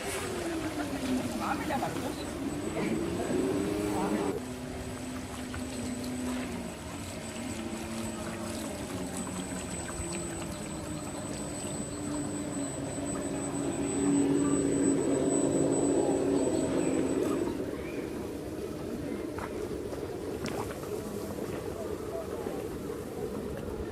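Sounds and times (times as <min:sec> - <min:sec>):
boat engine running: 0:00.0 - 0:23.9
water rushing along hull: 0:00.0 - 0:23.9.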